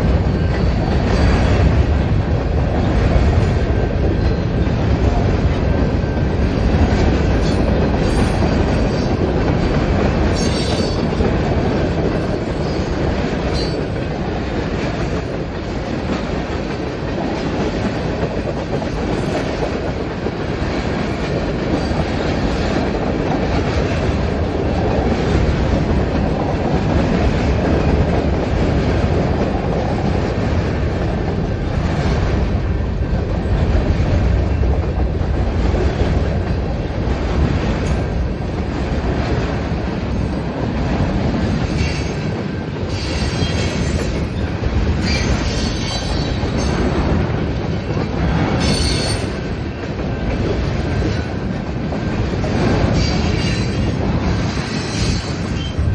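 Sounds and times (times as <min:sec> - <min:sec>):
train wheels clacking on rails: 0:00.0 - 0:55.9.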